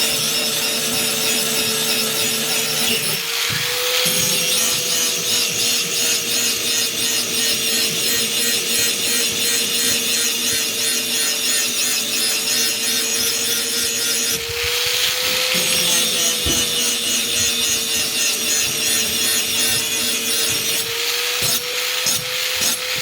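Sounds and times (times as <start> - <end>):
grinder motor whine: 0.0 - 23.0.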